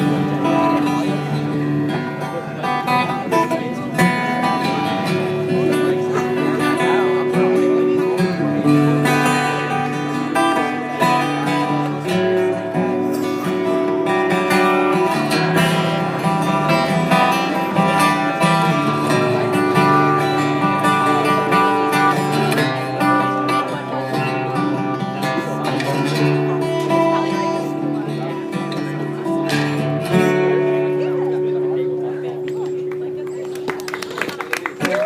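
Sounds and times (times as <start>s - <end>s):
acoustic guitar strumming chords: 0.0s - 33.8s.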